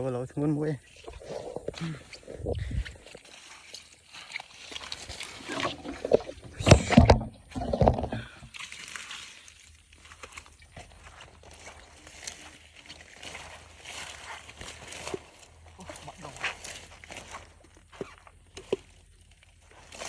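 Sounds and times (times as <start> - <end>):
water splashing and sloshing: 0.7 - 20.0.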